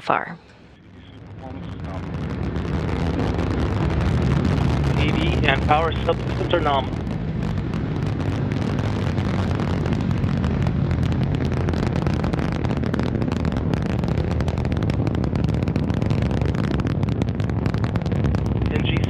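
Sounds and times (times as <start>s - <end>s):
rocket engines rumbling: 0.0s - 19.0s.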